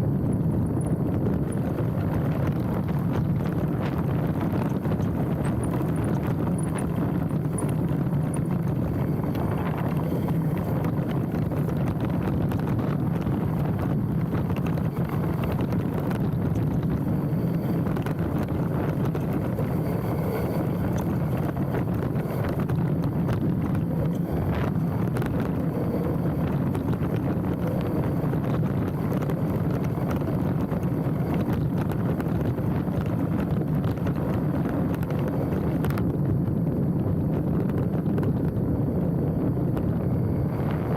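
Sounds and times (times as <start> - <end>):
bike tyres rumbling on dirt: 0.0 - 40.9
wind buffeting microphone: 0.0 - 40.9
bike rattling and knocking: 0.2 - 36.2.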